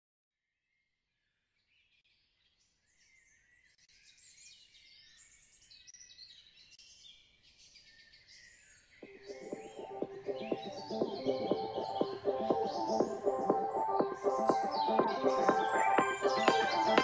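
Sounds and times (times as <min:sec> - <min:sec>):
songbirds singing: 0:02.9 - 0:17.0.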